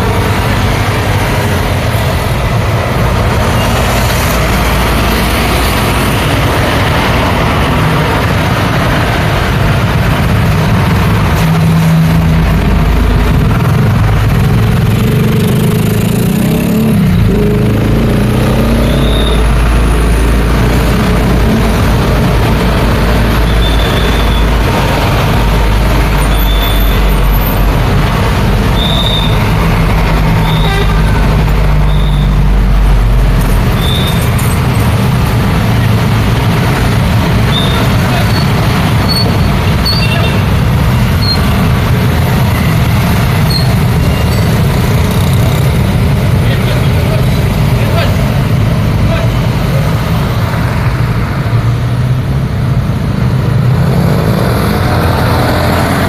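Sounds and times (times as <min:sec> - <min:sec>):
deep engine rumble: 0:00.0 - 0:15.0, 0:16.9 - 0:51.8
heavy vehicles passing: 0:00.0 - 0:56.0.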